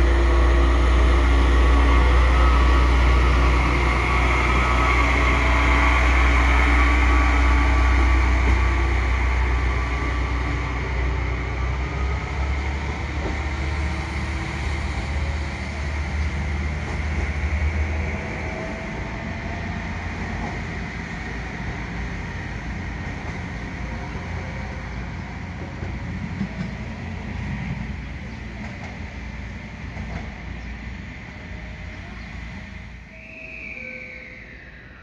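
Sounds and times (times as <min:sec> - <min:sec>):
train rumbling past on rails: 0:00.0 - 0:35.0.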